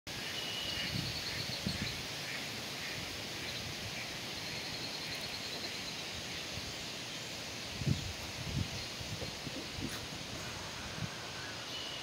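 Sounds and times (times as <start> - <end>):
steady outdoor hiss: 0.1 - 12.0.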